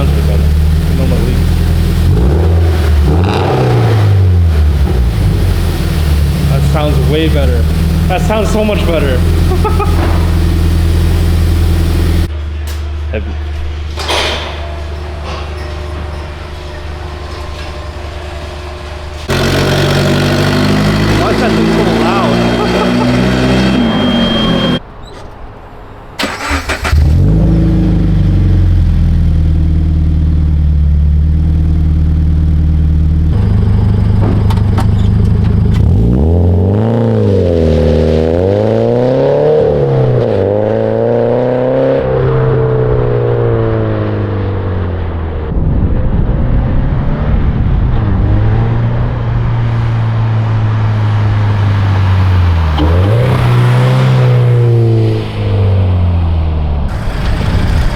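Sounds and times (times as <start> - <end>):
car engine revving: 0.0 - 12.3, 13.4 - 24.8, 26.2 - 57.9.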